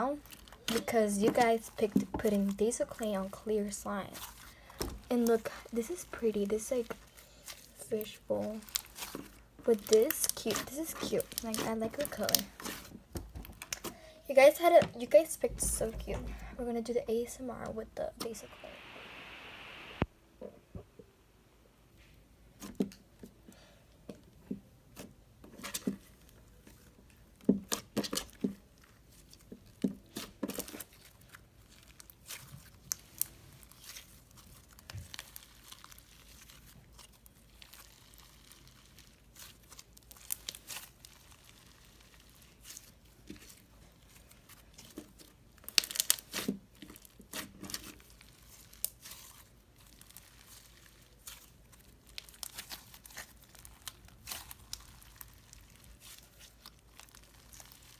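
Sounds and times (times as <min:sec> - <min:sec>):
slime crackling and popping: 0:00.0 - 0:13.9, 0:25.0 - 0:57.9.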